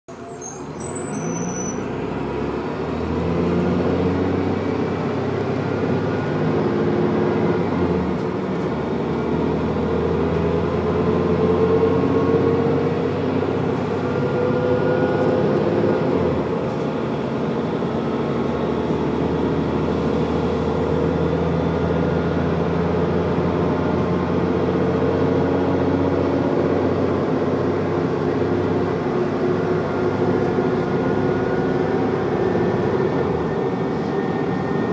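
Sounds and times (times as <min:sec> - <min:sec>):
bus diesel engine working hard: 0:00.1 - 0:34.9.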